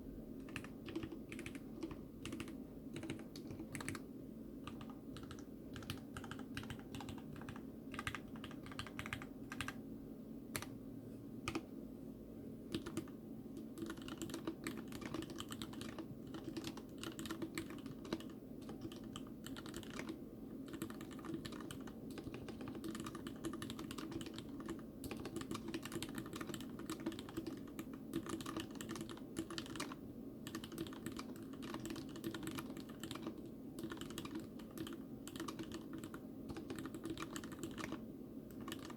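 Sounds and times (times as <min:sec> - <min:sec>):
fast typing on keyboard: 0:00.4 - 0:04.0, 0:04.6 - 0:09.8, 0:12.7 - 0:38.9.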